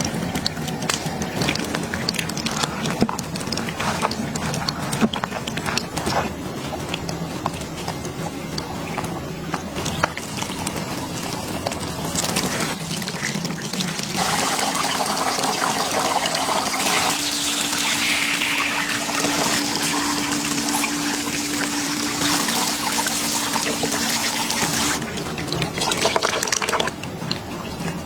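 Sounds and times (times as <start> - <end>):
shower water running onto hair: 0.0 - 28.0.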